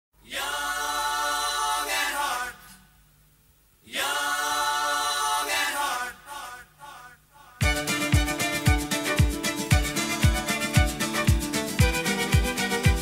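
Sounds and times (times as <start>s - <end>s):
choir singing sustained chords: 0.2s - 2.9s, 3.8s - 13.0s.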